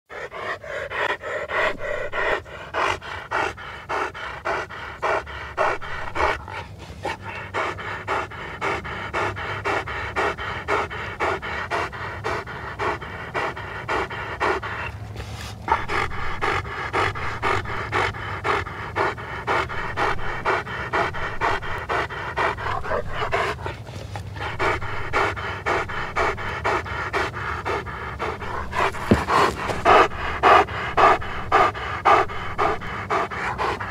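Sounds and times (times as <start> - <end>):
dog panting: 0.1 - 33.9.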